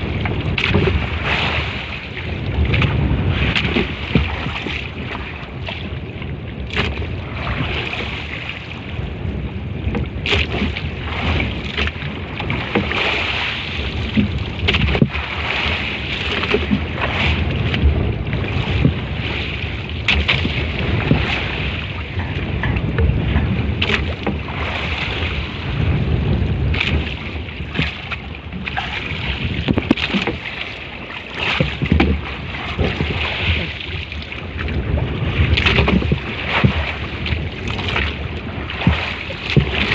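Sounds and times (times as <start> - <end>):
water against hull: 0.0 - 39.9
wind on microphone: 0.0 - 39.9.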